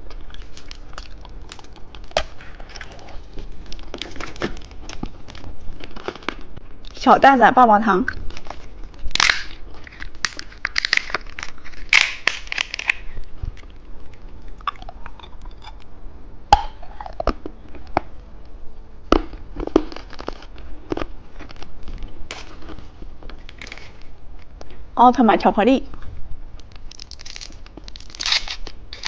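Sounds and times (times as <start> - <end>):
crunching hard candy: 0.0 - 7.0, 8.1 - 15.9, 16.5 - 18.1, 19.1 - 24.1, 26.6 - 29.0.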